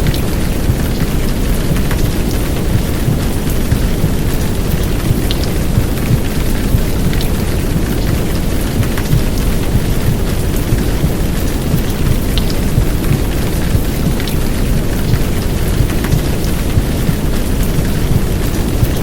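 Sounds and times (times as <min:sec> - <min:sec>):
heavy rain downpour: 0:00.0 - 0:19.0
muffled heartbeat: 0:00.0 - 0:19.0
womb white noise: 0:00.0 - 0:19.0.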